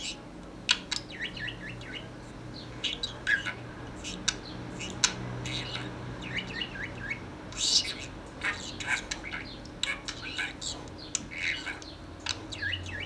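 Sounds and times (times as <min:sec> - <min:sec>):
parrot chattering and squawking: 0:00.0 - 0:13.0.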